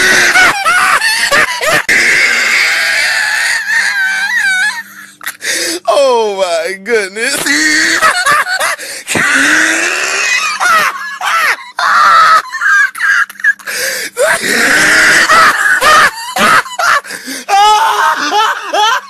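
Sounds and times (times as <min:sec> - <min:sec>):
man laughing hysterically: 0:00.0 - 0:05.2, 0:07.4 - 0:19.0.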